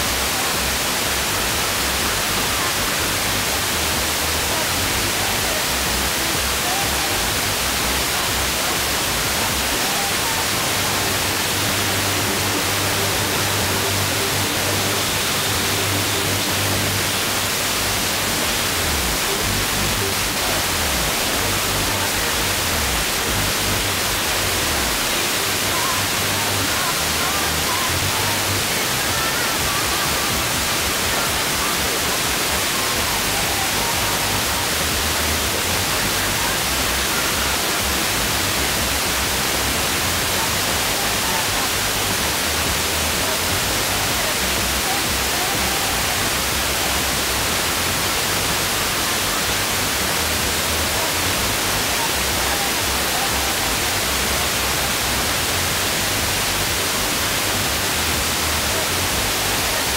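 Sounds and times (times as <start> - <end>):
faint radio programme: 0.0 - 59.9
radio static hiss: 0.0 - 59.9.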